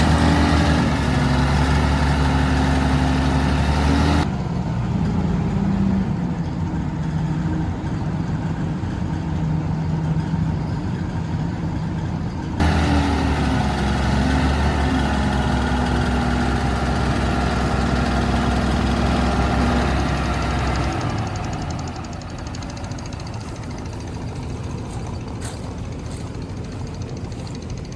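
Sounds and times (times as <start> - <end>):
diesel machinery engine running: 0.0 - 27.9.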